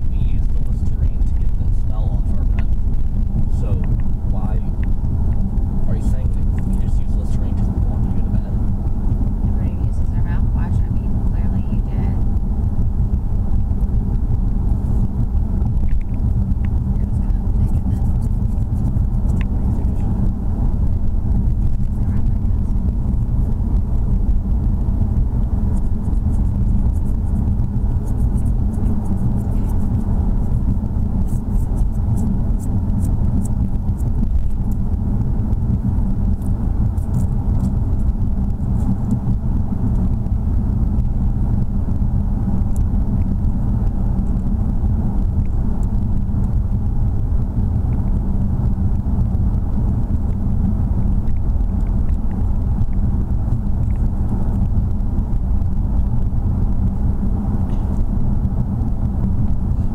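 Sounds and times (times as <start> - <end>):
car cabin rumble: 0.0 - 59.9.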